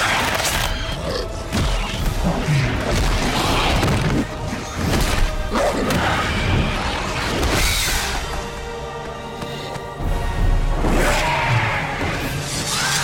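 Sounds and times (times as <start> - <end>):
dramatic film score: 0.0 - 13.0.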